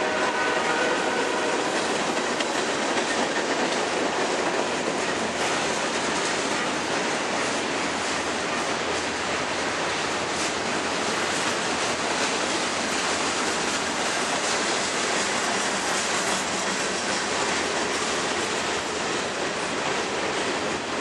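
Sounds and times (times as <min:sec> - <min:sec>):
train wheels on rail: 0:00.0 - 0:21.0.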